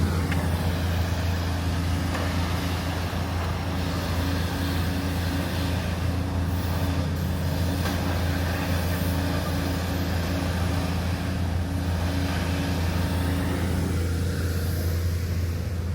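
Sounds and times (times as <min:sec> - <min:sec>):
large engine droning: 0:00.0 - 0:15.9.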